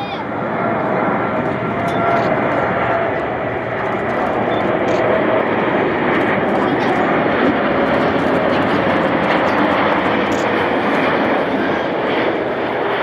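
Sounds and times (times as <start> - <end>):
jet engines roaring on landing: 0.0 - 13.0.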